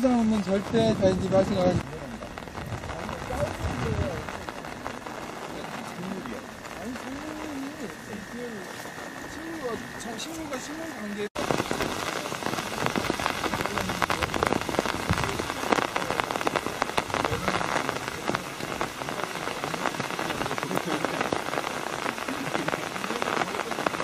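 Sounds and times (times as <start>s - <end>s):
rain patter on an umbrella: 0.0s - 24.0s.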